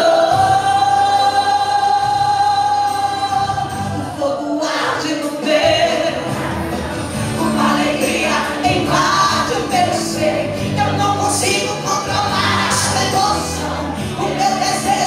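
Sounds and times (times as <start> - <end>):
amplified instrumental backing: 0.0 - 15.0
woman singing into microphone: 0.0 - 15.0.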